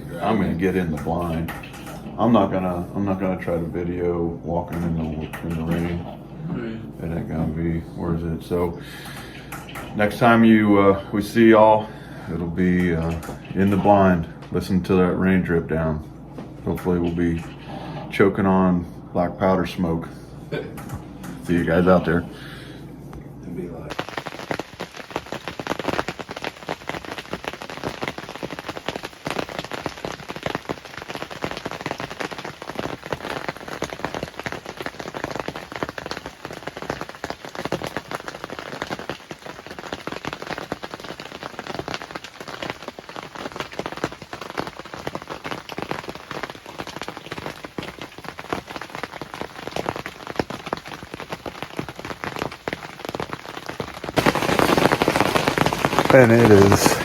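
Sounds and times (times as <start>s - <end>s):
heavy rain on a roof: 0.0s - 7.6s, 8.5s - 14.8s, 23.9s - 57.0s.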